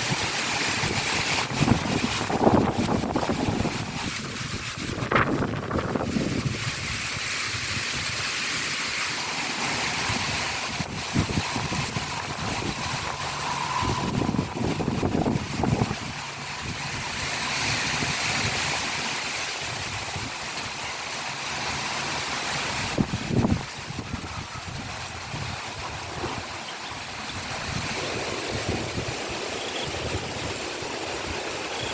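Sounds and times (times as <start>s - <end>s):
heavy rain pouring: 0.0s - 31.9s
wind buffeting microphone: 0.0s - 31.9s.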